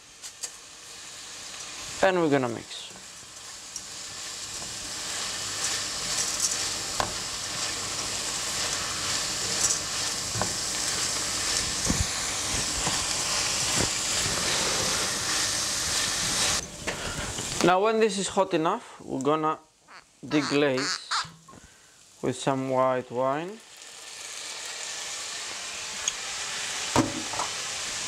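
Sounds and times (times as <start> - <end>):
rice sizzling in oil: 0.0 - 18.4, 19.9 - 28.0.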